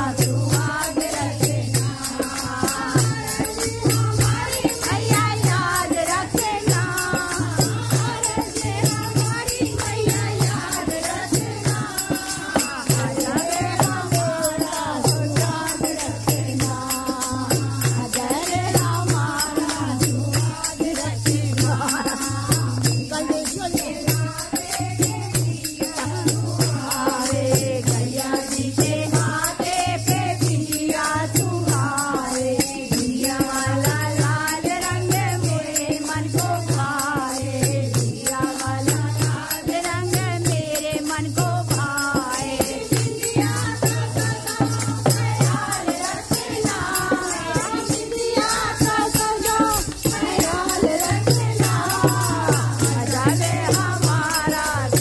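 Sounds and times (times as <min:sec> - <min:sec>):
shaken jingling percussion: 0:00.0 - 0:55.0
voices singing devotional song: 0:00.0 - 0:55.0.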